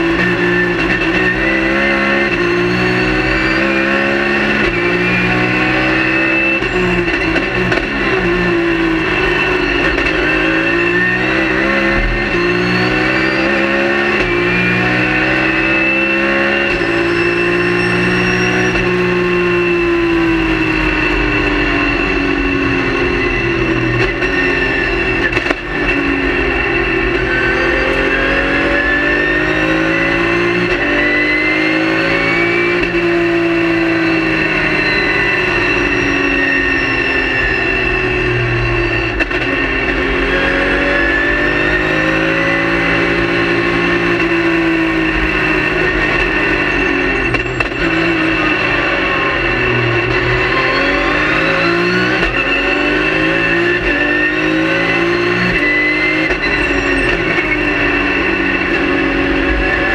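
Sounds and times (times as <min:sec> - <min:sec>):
race car engine revving: 0:00.0 - 0:59.9
steady high whine: 0:00.0 - 0:59.9.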